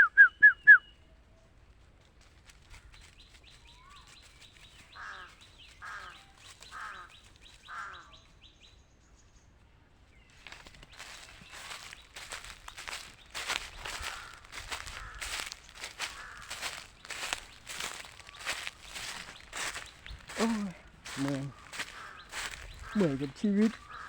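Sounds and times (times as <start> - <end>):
bird calling: 0.0 - 1.0, 3.7 - 8.7, 10.4 - 24.0
footsteps on dry leaves: 1.6 - 8.1, 10.3 - 24.0.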